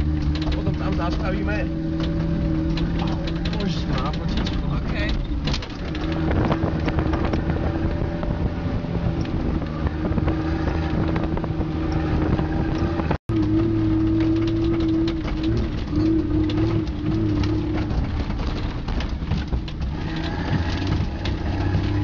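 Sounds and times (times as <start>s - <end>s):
knocks and rattles: 0.0s - 22.0s
vehicle engine under load: 0.0s - 22.0s.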